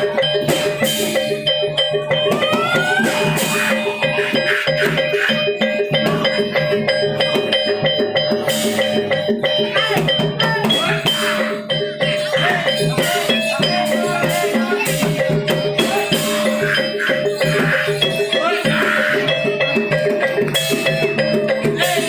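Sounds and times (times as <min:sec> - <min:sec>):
drums: 0:00.0 - 0:22.0.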